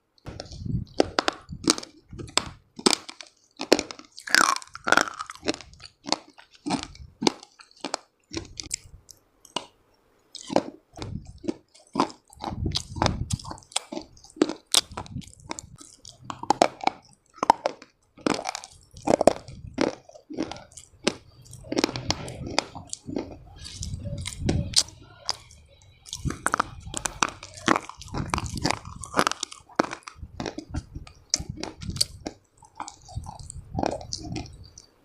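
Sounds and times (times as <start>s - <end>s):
crunchy chewing: 0.2s - 35.0s.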